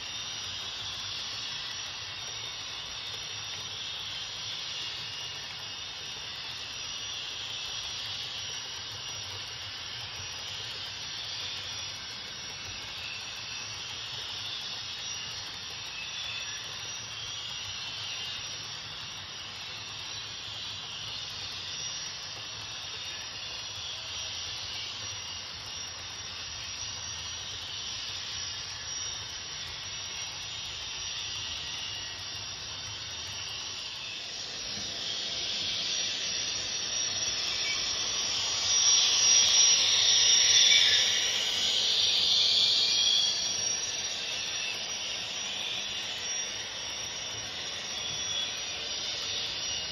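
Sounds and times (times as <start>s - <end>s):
rushing hiss of model locomotive: 0.0s - 49.9s.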